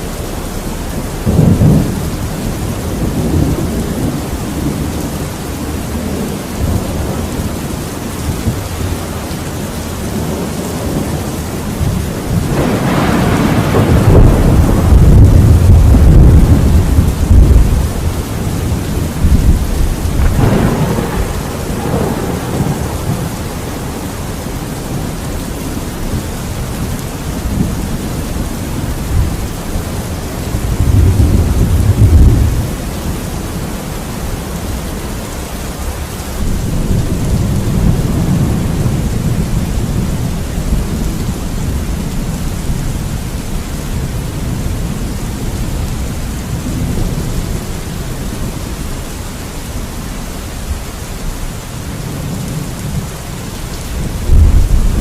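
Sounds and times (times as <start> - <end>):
rolling thunder: 0.0 - 49.9, 51.9 - 55.0
steady rain: 0.0 - 55.0.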